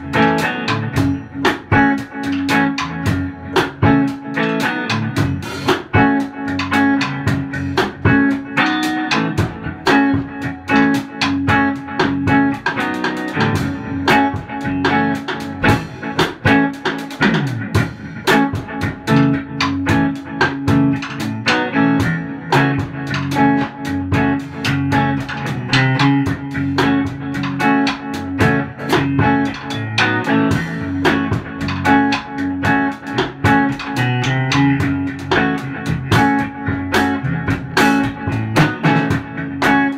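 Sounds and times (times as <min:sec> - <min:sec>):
drum kit playing steady beat: 0:00.0 - 0:39.9
electric guitar: 0:00.0 - 0:39.9.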